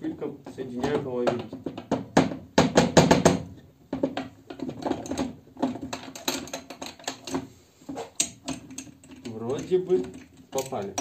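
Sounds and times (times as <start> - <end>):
metal clicks and knocks: 0.1 - 11.0.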